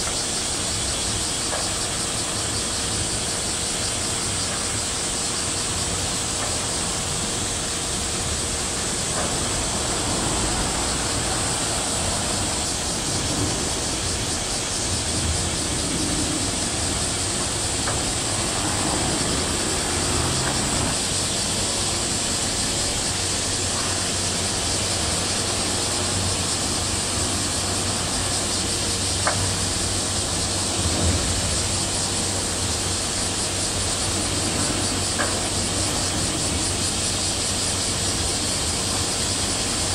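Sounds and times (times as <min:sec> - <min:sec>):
hiss-like wash: 0:00.0 - 0:39.9
low machinery hum: 0:00.0 - 0:39.9.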